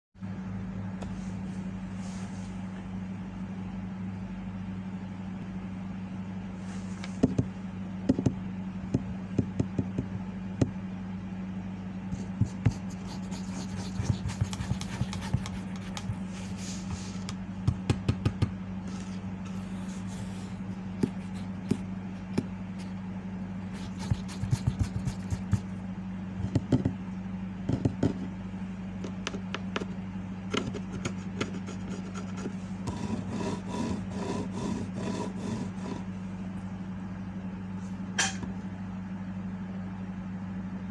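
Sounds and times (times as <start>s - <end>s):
steady low hum: 0.2s - 40.9s.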